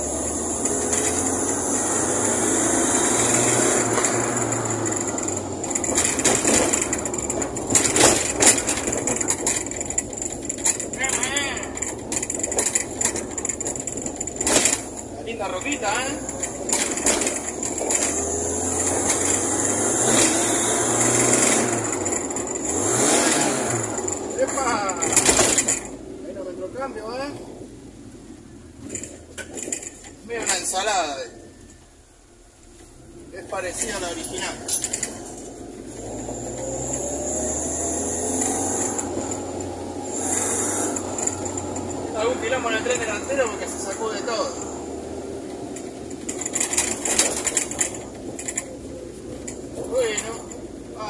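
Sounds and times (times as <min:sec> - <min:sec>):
car engine from inside cabin: 0:00.0 - 0:29.9, 0:31.4 - 0:51.0.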